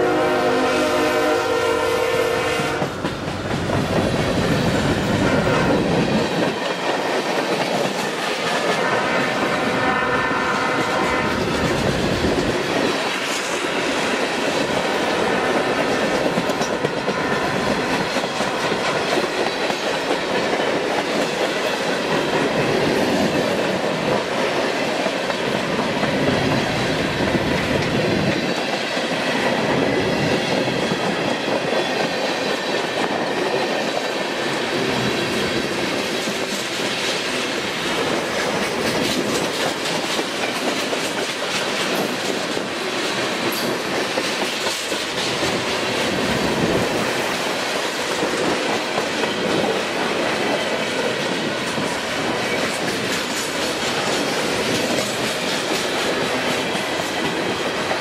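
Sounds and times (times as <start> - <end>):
train wheels rumbling on rail: 0.0 - 58.0
clickety-clack over rail joints: 2.6 - 9.9, 10.5 - 58.0.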